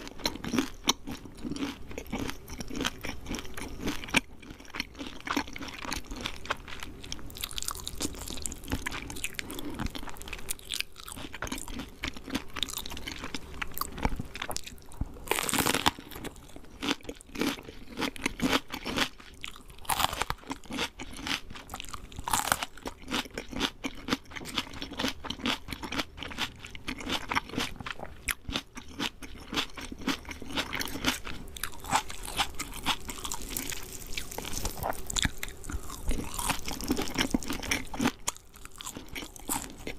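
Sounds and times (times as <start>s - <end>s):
fried chicken crunching when bitten: 7.4s - 39.9s.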